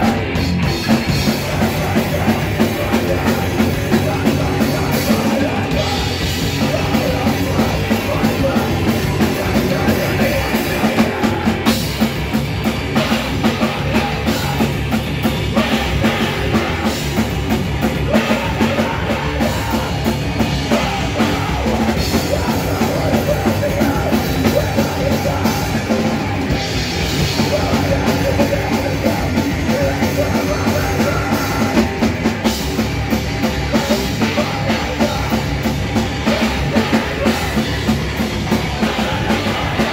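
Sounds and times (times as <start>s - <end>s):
bass guitar: 0.0s - 39.9s
distorted electric guitar: 0.0s - 39.9s
drum kit: 0.0s - 39.9s.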